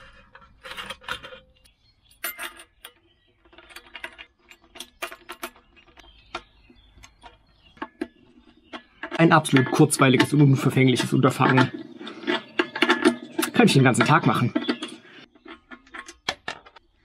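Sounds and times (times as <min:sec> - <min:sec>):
metallic clicks and scraping: 0:00.0 - 0:16.8.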